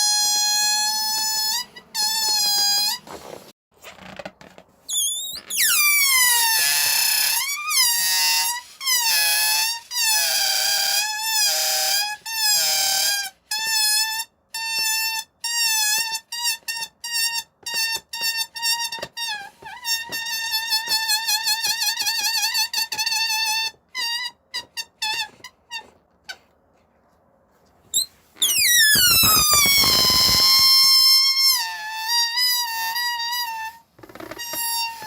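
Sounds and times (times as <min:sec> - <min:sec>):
balloon neck squealing: 0:00.0 - 0:26.5, 0:27.9 - 0:35.0.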